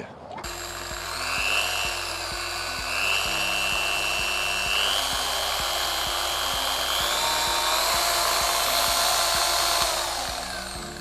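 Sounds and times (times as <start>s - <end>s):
polisher motor whine: 0.4s - 11.0s.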